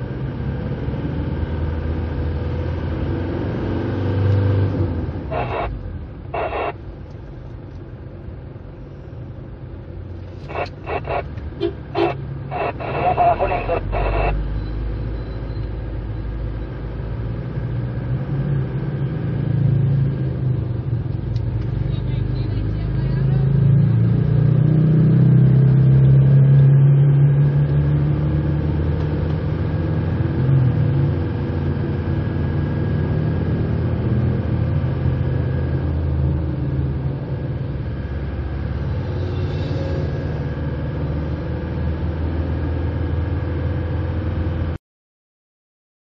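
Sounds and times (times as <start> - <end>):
car engine and road rumble: 0.0 - 44.8.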